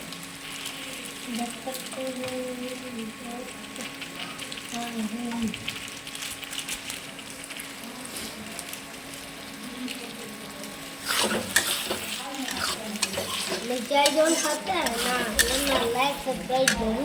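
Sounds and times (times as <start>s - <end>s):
curry sizzling in hot oil: 0.0s - 17.0s.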